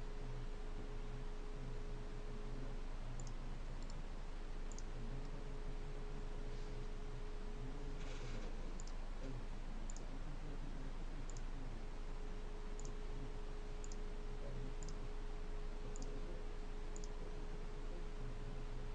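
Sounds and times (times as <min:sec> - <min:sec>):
faint hum: 0:00.0 - 0:18.9.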